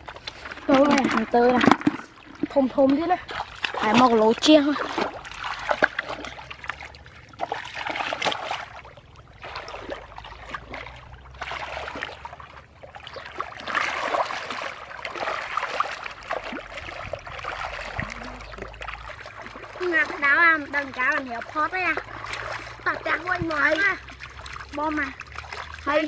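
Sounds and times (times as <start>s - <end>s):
muddy water splashing and sloshing: 0.0s - 26.0s.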